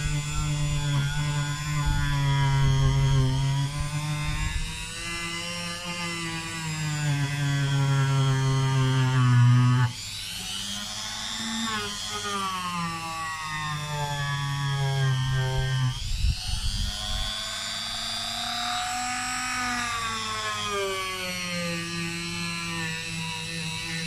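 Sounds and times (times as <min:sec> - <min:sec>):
rotary tool whining: 0:00.0 - 0:24.0.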